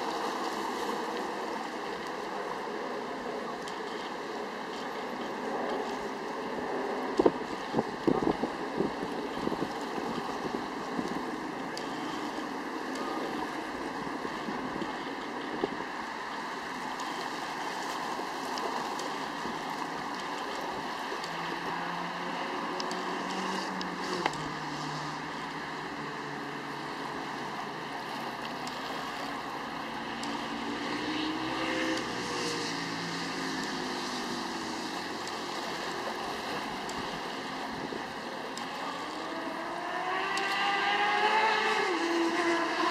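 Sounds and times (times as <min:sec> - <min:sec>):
engines passing: 0:00.0 - 0:42.9
water: 0:00.0 - 0:42.9
wind: 0:00.0 - 0:42.9.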